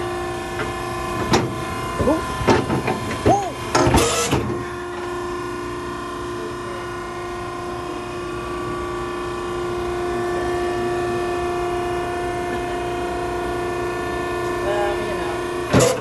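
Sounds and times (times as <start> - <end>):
hydraulic power unit whining: 0.0 - 16.0.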